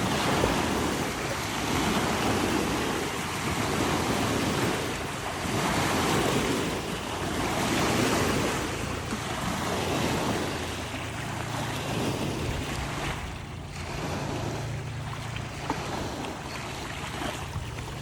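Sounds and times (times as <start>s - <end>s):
boat wake washing onto shore: 0.0s - 18.0s.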